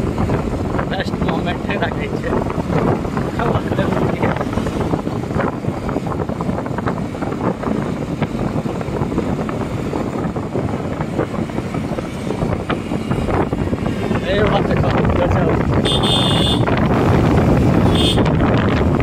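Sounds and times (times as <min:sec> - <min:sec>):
engine and tyre drone: 0:00.0 - 0:19.0
wind rushing over microphone: 0:00.0 - 0:19.0.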